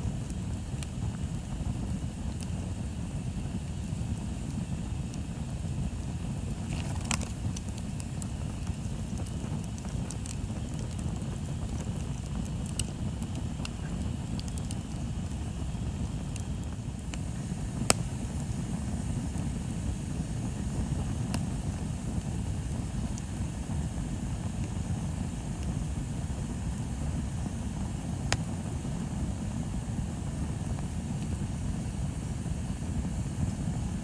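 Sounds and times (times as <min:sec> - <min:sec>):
bonfire burning: 0:00.0 - 0:34.0.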